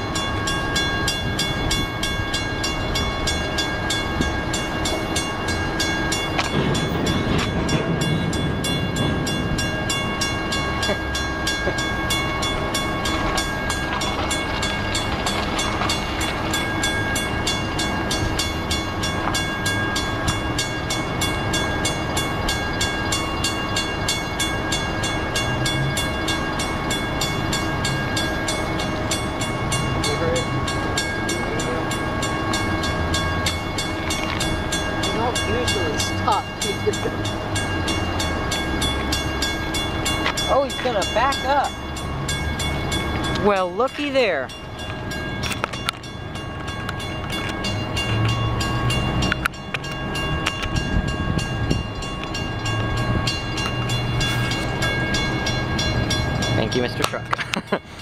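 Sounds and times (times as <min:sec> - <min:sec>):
crossing bell ringing: 0:00.0 - 0:58.0
freight train rumbling and clanking: 0:00.0 - 0:58.0.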